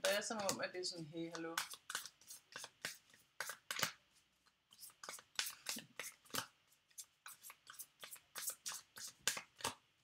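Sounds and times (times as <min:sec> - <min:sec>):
cards being shuffled: 0:01.3 - 0:09.8.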